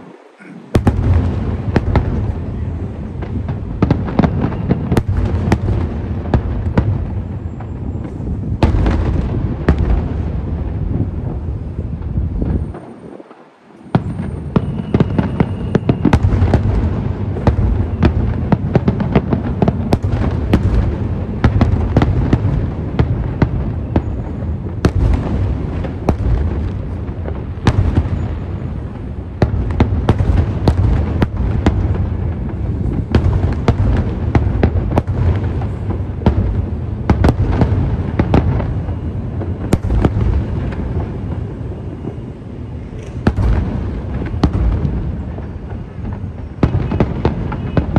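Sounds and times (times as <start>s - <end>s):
fireworks cracks and crackles: 0.0s - 47.9s.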